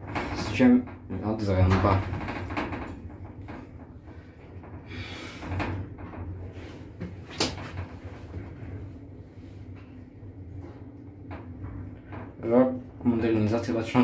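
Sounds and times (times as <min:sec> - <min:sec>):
elevator clicks and knocks: 0:00.0 - 0:08.9, 0:10.5 - 0:14.0
elevator running hum: 0:00.0 - 0:14.0.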